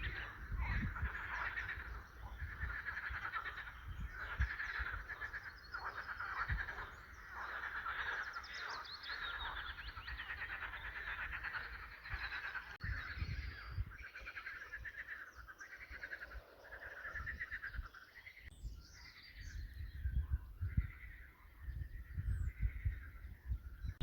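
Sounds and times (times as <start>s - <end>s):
frogs croaking: 0.0s - 23.9s
birds chirping: 0.0s - 24.0s.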